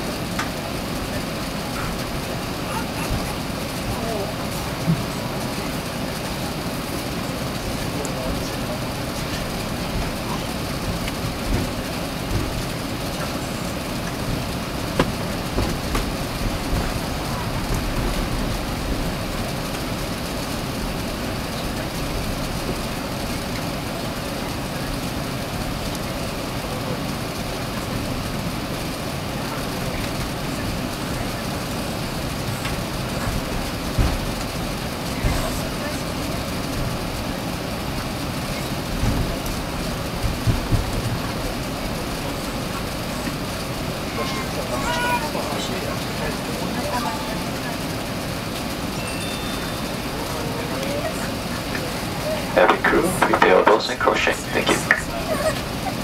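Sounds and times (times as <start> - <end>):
aircraft cabin rumble and hiss: 0.0 - 56.0.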